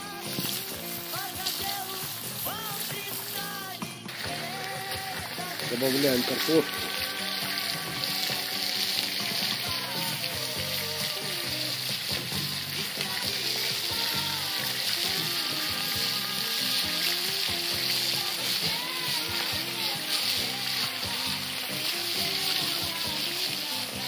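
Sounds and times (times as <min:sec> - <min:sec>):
background music: 0:00.0 - 0:24.0
sausages sizzling in oil: 0:00.0 - 0:24.0.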